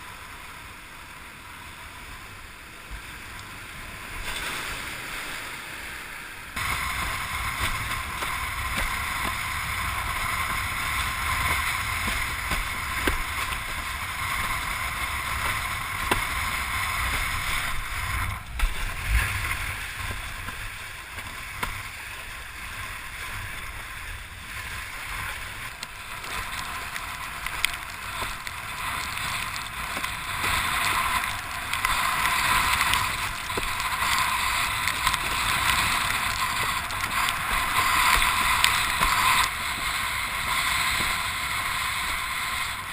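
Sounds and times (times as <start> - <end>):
water rushing and splashing: 0.0 - 42.9
wind buffeting microphone: 6.6 - 42.9.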